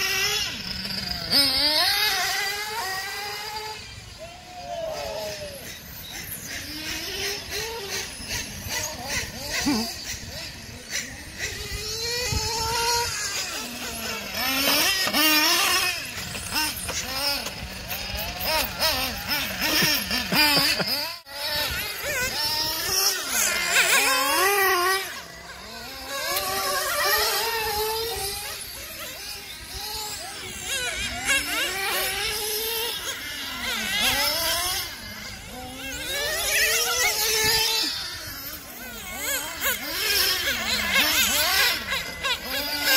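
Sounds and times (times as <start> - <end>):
radio-controlled car engines racing: 0.0 - 42.9.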